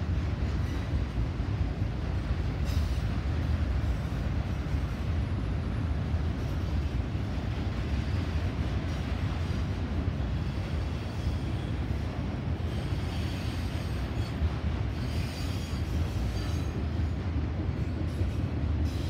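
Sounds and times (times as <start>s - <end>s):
freight train wheels rolling on rail: 0.0s - 19.0s.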